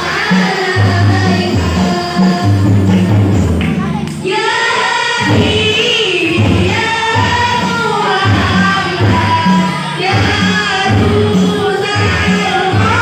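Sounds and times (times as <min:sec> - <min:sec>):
deep frame drum beats: 0:00.0 - 0:04.3, 0:05.2 - 0:13.0
voices singing devotional melody: 0:00.0 - 0:13.0.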